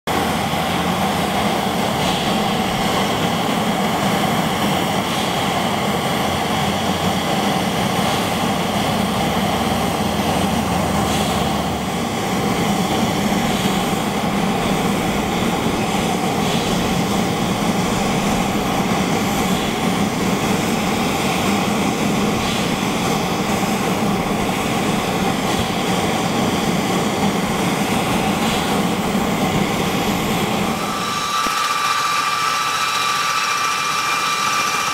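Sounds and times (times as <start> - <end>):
turbine engine whine: 0.1 - 34.9.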